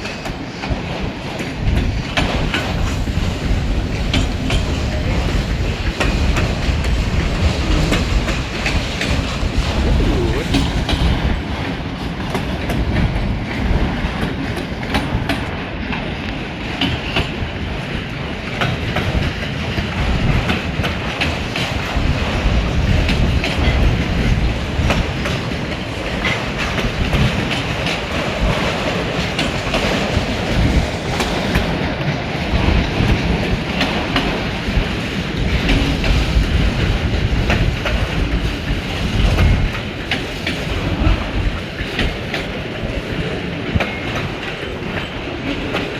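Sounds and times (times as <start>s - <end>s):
train wheels clacking over rail joints: 0.0s - 9.7s, 10.6s - 45.9s
low train rumble: 0.0s - 45.9s.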